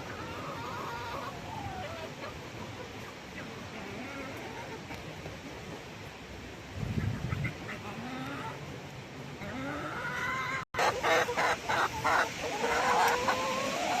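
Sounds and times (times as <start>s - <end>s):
chickens clucking and calling: 0.0s - 6.2s, 6.8s - 8.8s, 9.4s - 14.0s.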